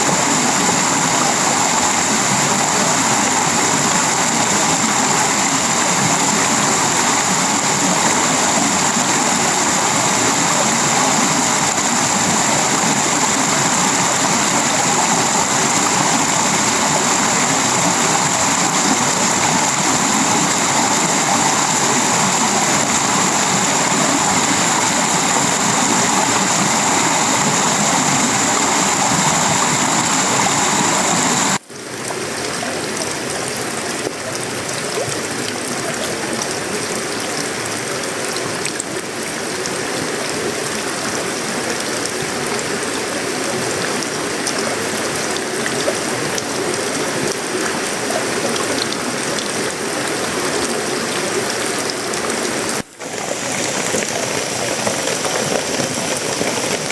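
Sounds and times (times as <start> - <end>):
heavy rain on metal and leaves: 0.0 - 31.7, 32.8 - 56.9.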